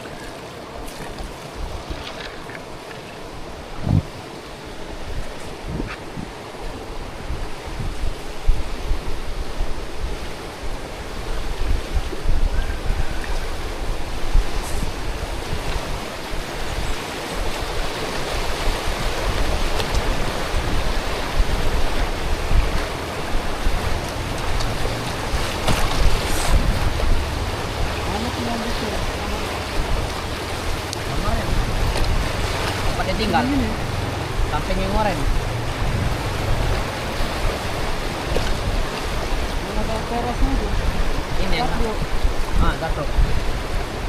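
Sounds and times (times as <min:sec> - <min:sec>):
river water rushing: 0:00.0 - 0:44.0
wind buffeting microphone: 0:00.9 - 0:44.0.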